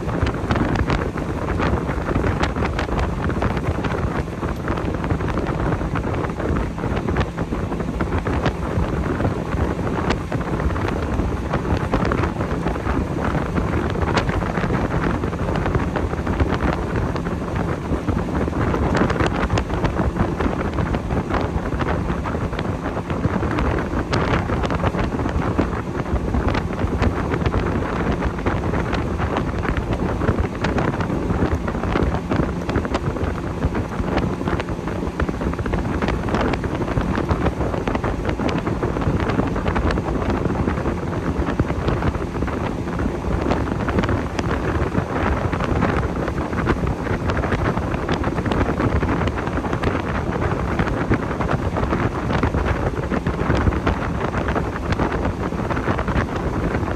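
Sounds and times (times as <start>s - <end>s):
boat motor drone: 0.0s - 56.9s
hull splashing through waves: 0.0s - 56.9s
wind buffeting microphone: 0.0s - 56.9s.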